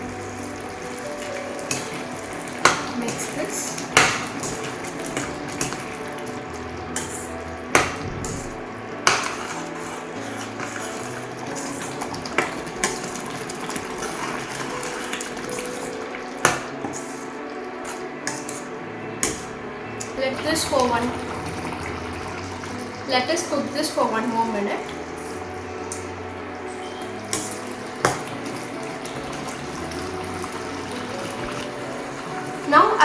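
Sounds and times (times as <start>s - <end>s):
spoon stirring thick gravy: 0.0s - 32.8s.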